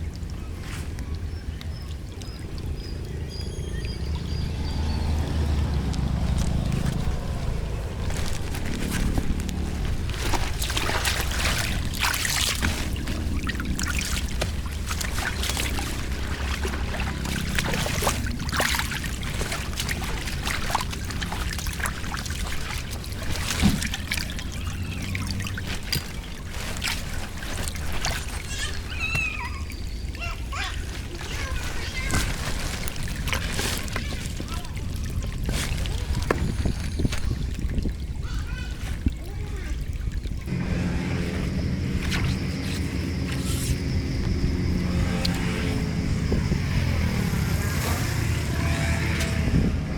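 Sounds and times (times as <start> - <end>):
water pouring through drain grate: 0.0 - 49.8.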